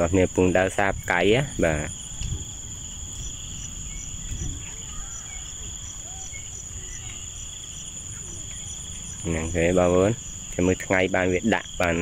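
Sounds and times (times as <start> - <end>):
field insects droning: 0.0 - 12.0
insect pulsing: 0.0 - 12.0.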